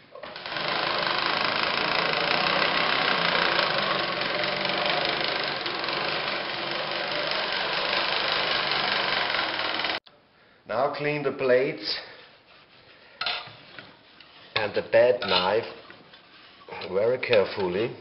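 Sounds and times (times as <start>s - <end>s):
reel mower blades grinding: 0.2s - 10.0s, 13.2s - 17.9s.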